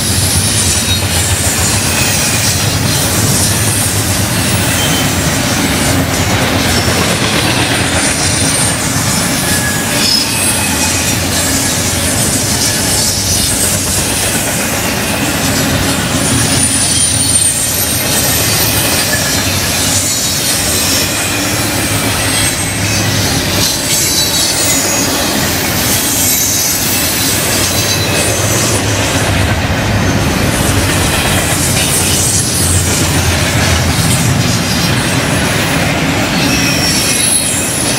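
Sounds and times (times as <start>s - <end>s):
high wheel squeals: 0.0s - 29.1s, 36.1s - 37.9s
steel wheels rumbling on rail: 0.0s - 37.9s.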